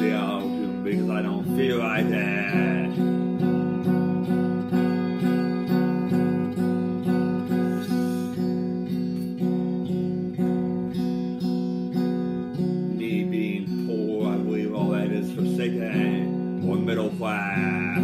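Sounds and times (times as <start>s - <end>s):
electric guitar strumming: 0.0s - 18.0s.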